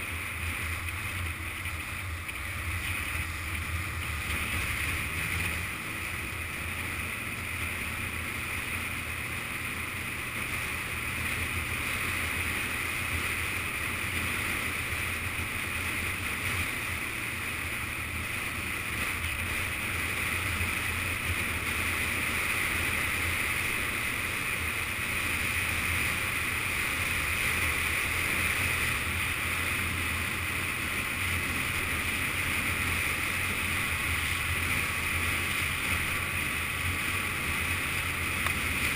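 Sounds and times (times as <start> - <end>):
motorcycle engine running: 0.0 - 38.9
wind rush on camera: 0.0 - 38.9.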